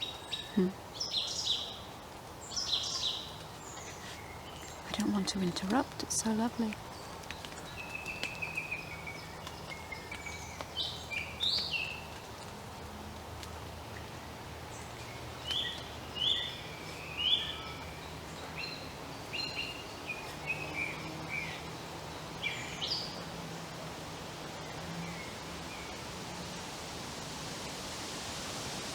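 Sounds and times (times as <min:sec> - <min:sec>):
songbirds chirping and whistling: 0:00.0 - 0:27.6
steady background hiss: 0:00.0 - 0:28.9.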